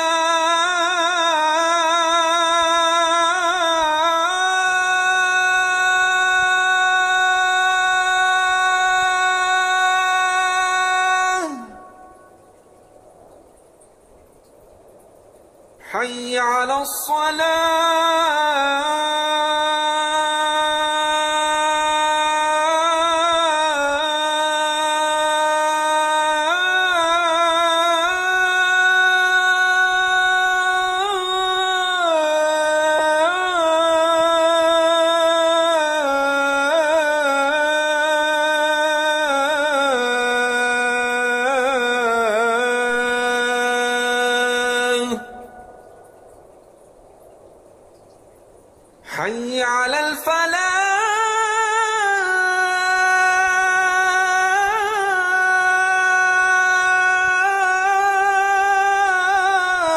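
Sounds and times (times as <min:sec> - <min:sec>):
man singing call to prayer: 0:00.0 - 0:12.4, 0:15.8 - 0:45.8, 0:49.0 - 0:59.9.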